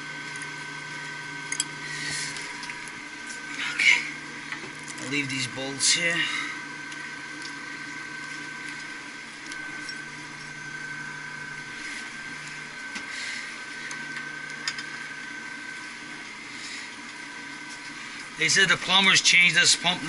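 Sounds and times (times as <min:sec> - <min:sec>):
machinery humming with high whine: 0:00.0 - 0:20.0.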